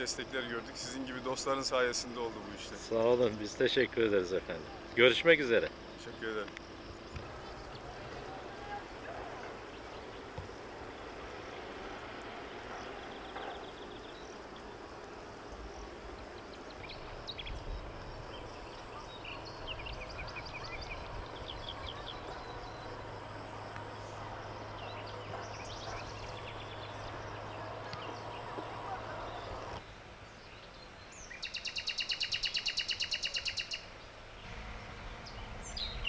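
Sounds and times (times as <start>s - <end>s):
low hum: 0.0s - 31.2s
birds chirping and trilling: 0.0s - 34.5s, 35.1s - 36.0s
steady background hiss: 0.0s - 36.0s.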